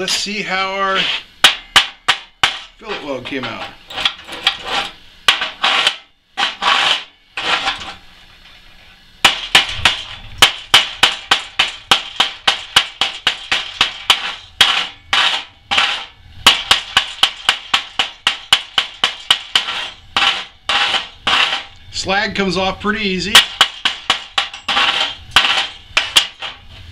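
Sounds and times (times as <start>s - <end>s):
chipping hammer tapping metal: 0.0s - 8.0s, 9.2s - 21.9s, 23.2s - 26.7s.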